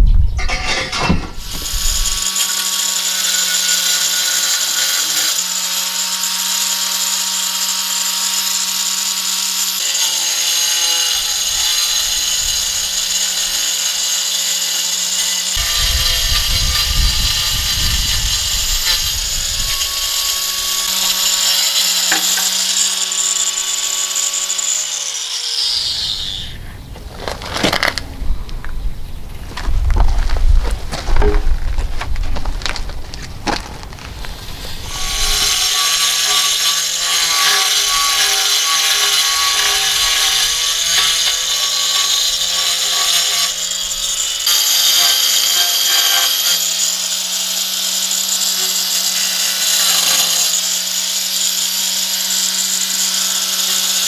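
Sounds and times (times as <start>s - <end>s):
power tool whining and grinding: 0.4s - 54.0s.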